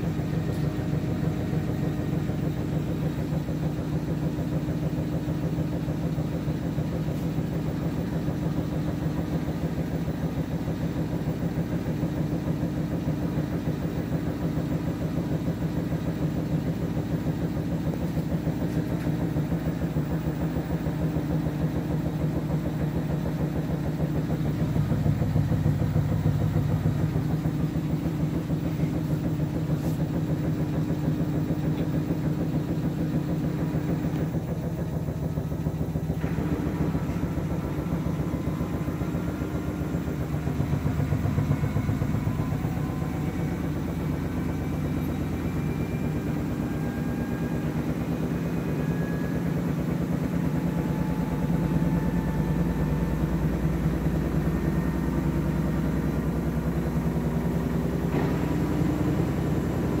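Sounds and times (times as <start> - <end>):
faint motor whine: 0.0 - 60.0
washing machine spin rumble: 0.0 - 60.0.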